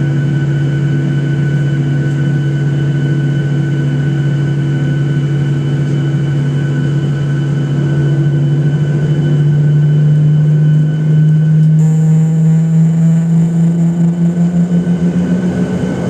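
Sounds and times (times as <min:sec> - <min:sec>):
jet engines drone in cabin: 0:00.0 - 0:16.0.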